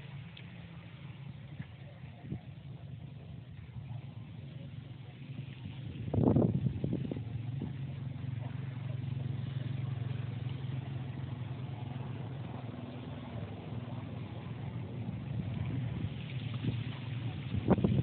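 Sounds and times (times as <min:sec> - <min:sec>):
engine humming at low speed: 0:00.0 - 0:18.0.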